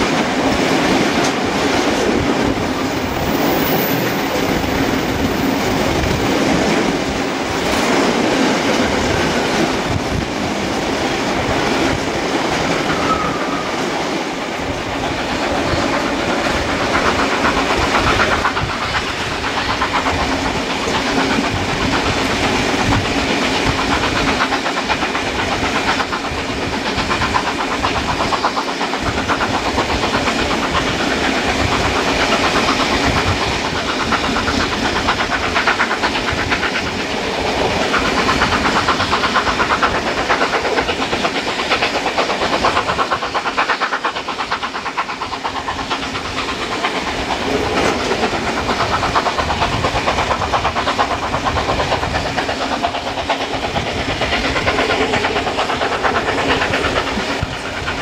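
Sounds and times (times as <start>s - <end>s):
train running and wind noise: 0.0s - 58.0s
wheels clickety-clack over rail joints: 0.0s - 58.0s.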